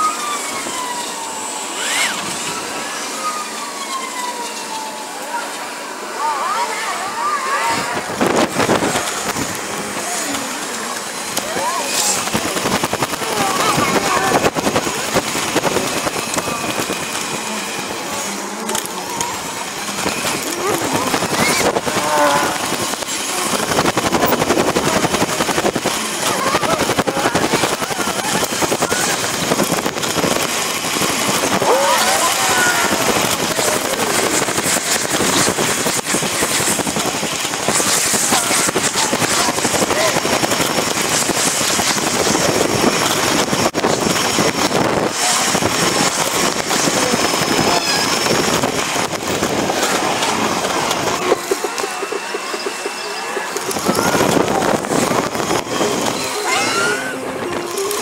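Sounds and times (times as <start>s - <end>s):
sped-up rushing clatter: 5.5s - 58.0s.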